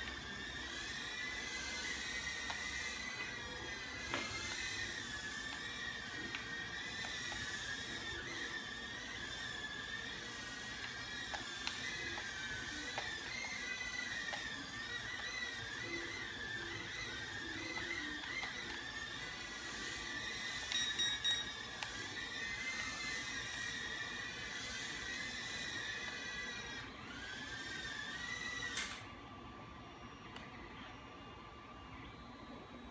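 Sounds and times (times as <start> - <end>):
drone motors whining: 0.0 - 32.9.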